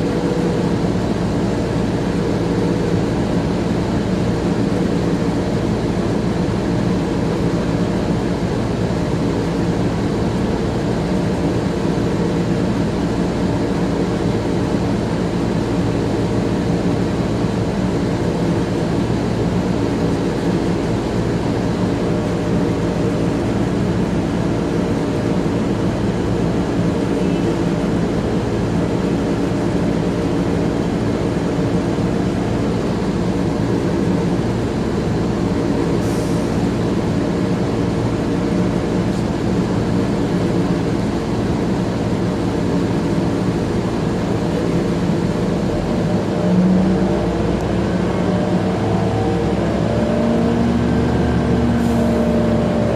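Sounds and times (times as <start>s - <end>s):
bus engine drone: 0.0s - 52.9s.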